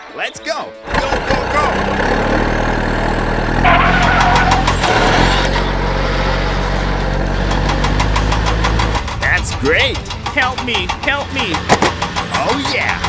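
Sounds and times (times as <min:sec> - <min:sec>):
engine humming: 0:00.9 - 0:13.0.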